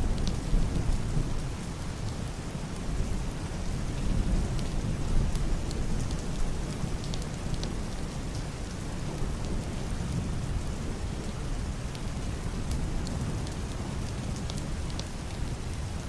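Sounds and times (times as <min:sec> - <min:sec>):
heavy rain on a wooden roof: 0:00.0 - 0:16.0.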